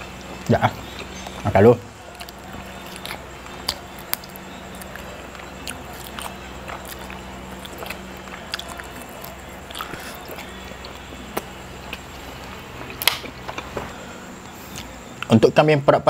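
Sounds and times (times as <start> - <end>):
steady low hum: 0.0 - 16.0
person chewing meat: 2.0 - 15.3.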